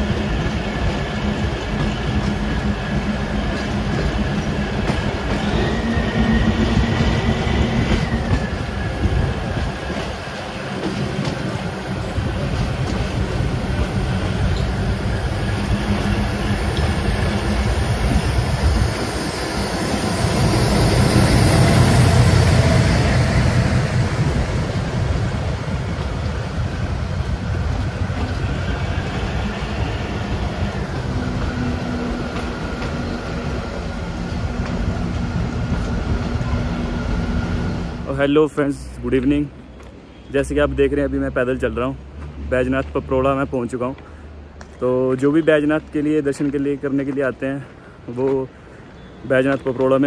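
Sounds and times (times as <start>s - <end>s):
train rumbling along track: 0.0s - 50.0s.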